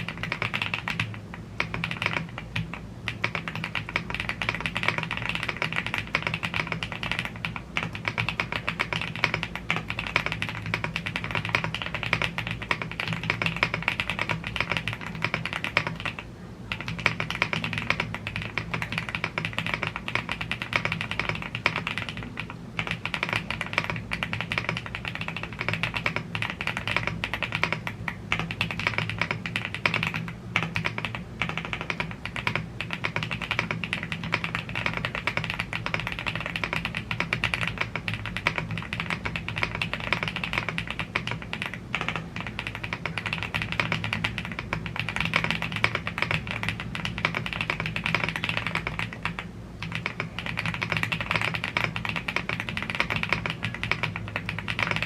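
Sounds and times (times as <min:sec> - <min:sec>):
mechanical keyboard key clacks: 0:00.0 - 0:55.0.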